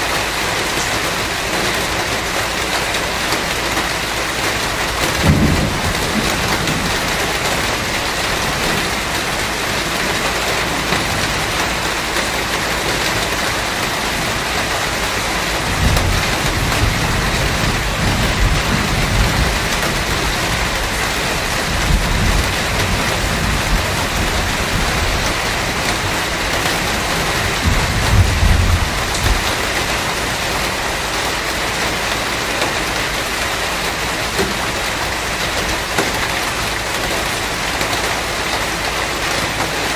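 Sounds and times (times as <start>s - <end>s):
thunder rumbling: 0.0s - 39.0s
steady rain: 0.0s - 39.9s.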